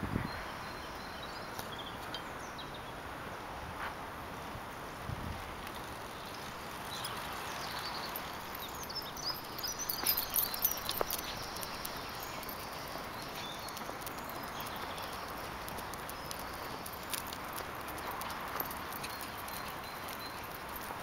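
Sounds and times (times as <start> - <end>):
birds chirping faintly: 0.2 - 3.6, 5.5 - 21.0
footsteps on a path: 3.2 - 21.0.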